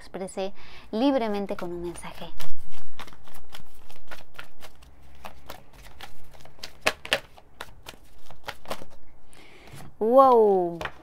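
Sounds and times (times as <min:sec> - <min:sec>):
cards being shuffled: 0:01.4 - 0:11.0.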